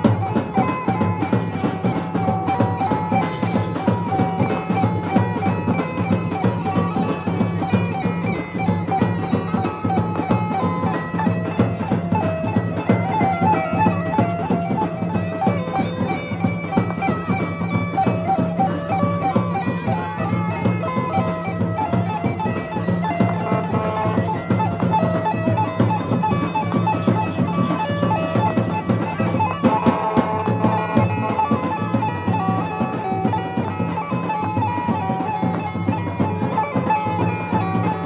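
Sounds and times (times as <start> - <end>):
drumming: 0.0 - 38.0
reed pipes melody: 0.0 - 38.0.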